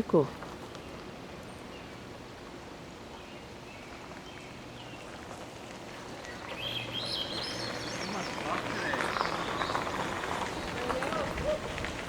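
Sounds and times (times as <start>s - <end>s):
faint songbirds chirping: 0.0s - 11.2s
steady outdoor hiss: 0.0s - 12.0s.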